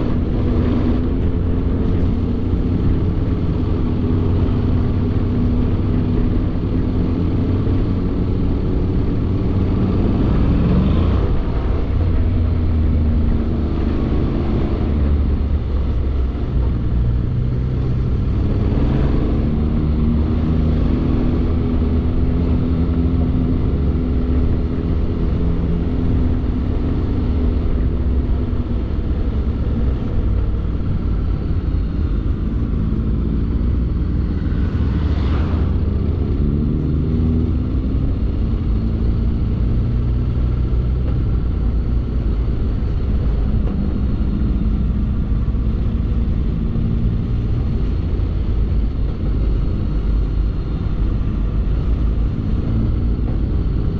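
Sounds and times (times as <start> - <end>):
wind rumble: 0.0 - 53.9.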